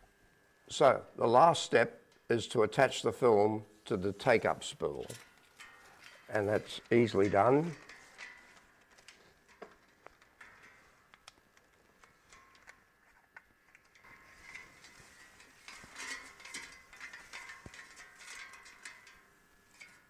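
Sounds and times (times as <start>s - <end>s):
film reel clicking and rattling: 3.2s - 20.0s.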